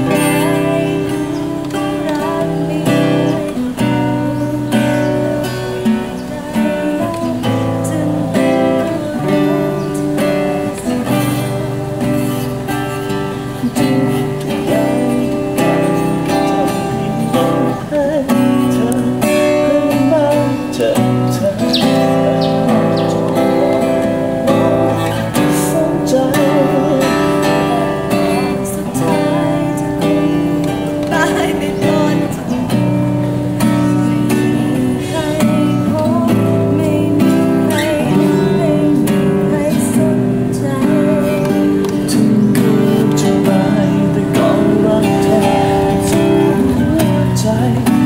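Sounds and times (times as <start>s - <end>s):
acoustic guitar strummed: 0.0s - 48.0s
person singing slow song: 0.0s - 48.0s.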